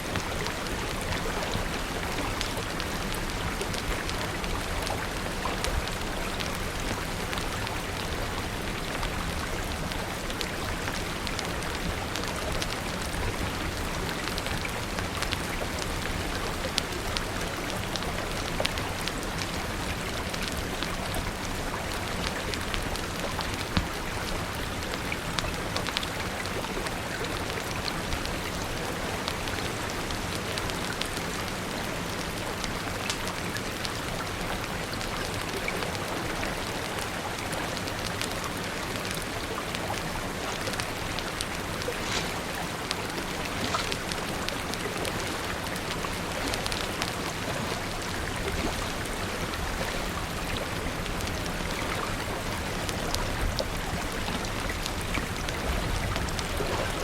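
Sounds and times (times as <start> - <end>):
steady rain falling: 0.0 - 57.0
wood fire crackling: 0.0 - 57.0.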